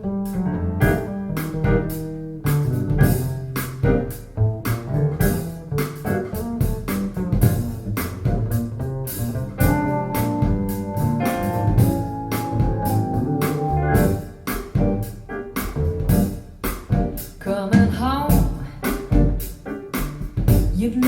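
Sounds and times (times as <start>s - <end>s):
instrumental music with keyboard and drums: 0.0s - 17.4s, 18.3s - 20.9s.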